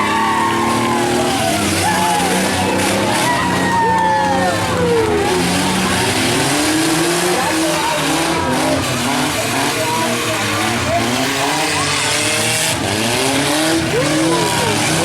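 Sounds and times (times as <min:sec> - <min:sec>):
engines revving: 0:00.0 - 0:15.0.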